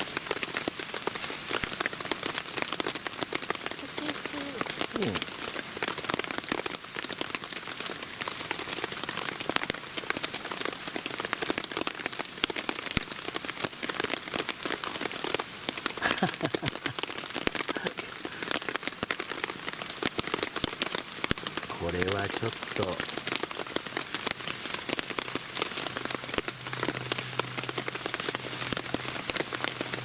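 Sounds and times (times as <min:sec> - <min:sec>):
rain drops ticking: 0:00.0 - 0:30.0
rain hiss: 0:00.0 - 0:30.0.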